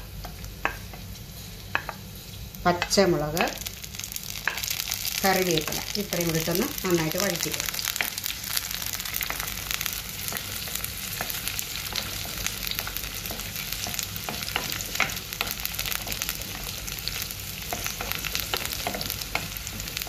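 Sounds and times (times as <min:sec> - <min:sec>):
garlic sizzling in hot oil: 0:00.0 - 0:20.0.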